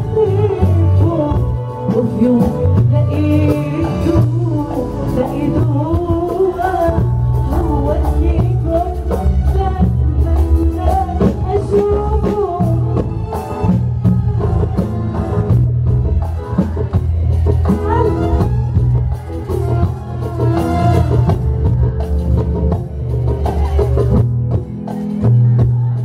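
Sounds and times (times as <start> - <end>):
band playing: 0.0 - 26.0
bass line: 0.0 - 26.0
woman singing into microphone: 0.0 - 26.0.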